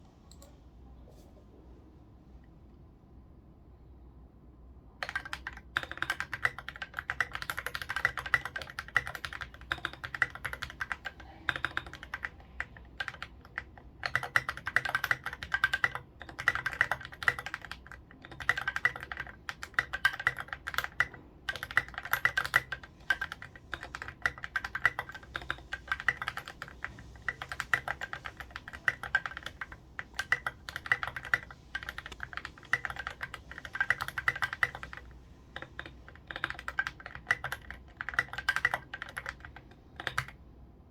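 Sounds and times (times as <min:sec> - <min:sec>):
mechanical keyboard typing: 0:05.0 - 0:40.4.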